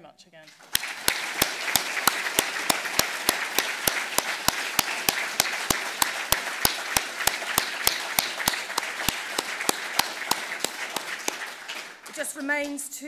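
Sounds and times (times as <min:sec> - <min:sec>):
close hand clapping: 0:00.5 - 0:12.9
audience applauding: 0:00.5 - 0:13.0.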